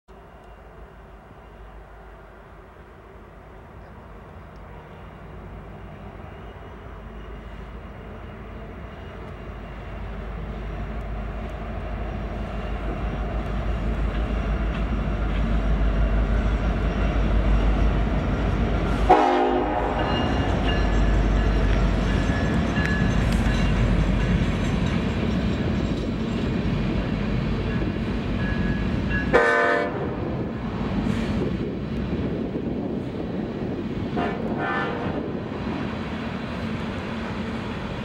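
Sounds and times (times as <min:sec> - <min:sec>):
diesel locomotive rumbling: 0:00.1 - 0:38.0
train cars rolling on rails: 0:00.1 - 0:38.0.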